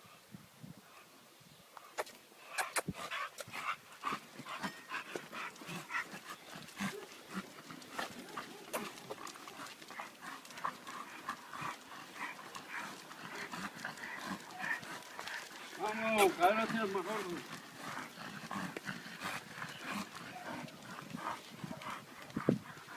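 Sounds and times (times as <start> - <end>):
dogs huffing and breathing: 0.8 - 22.9.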